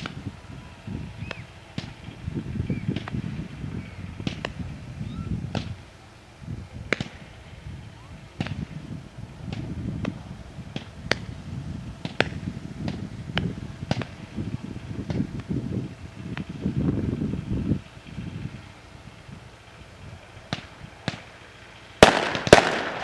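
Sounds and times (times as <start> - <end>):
fireworks popping and cracking: 0.0 - 6.0, 6.6 - 23.0
low rumbling noise: 0.0 - 23.0.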